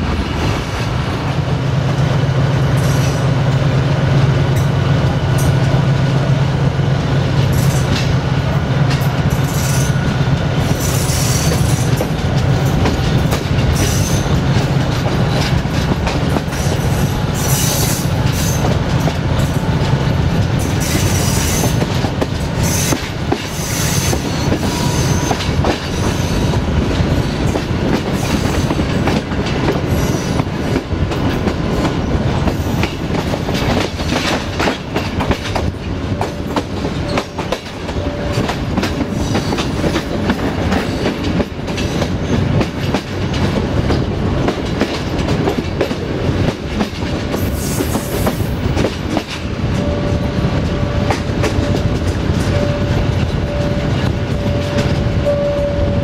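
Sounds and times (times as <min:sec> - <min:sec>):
diesel locomotive drone: 0:00.0 - 0:56.0
train wheels clattering over joints: 0:07.0 - 0:55.2.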